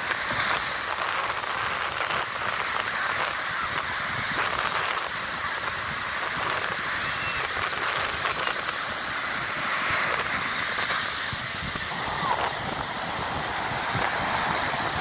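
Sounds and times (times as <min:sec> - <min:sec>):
waves breaking on sand: 0:00.0 - 0:15.0
wind buffeting microphone: 0:00.0 - 0:15.0.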